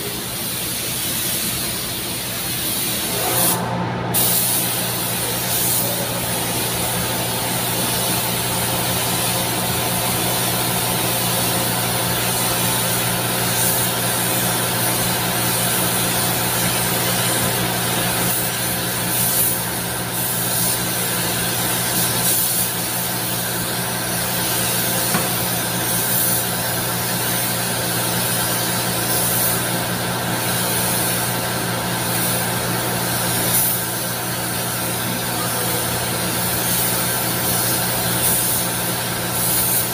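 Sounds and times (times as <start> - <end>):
paint spray gun hissing: 0.0 - 3.6, 4.2 - 31.4, 32.0 - 35.0, 36.0 - 39.9.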